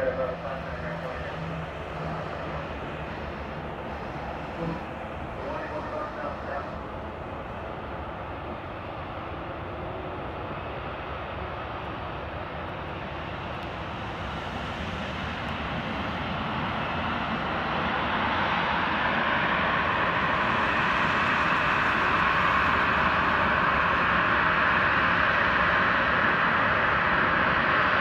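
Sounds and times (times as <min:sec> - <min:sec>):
jet engines at taxi power: 0:00.0 - 0:28.0.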